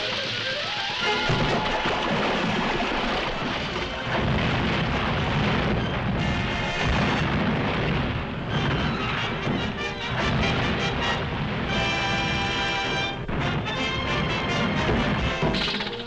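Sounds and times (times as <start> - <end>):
orchestral film music: 0.0 - 4.2, 6.1 - 7.3, 8.4 - 16.0
heavy booming crashes: 0.9 - 16.0.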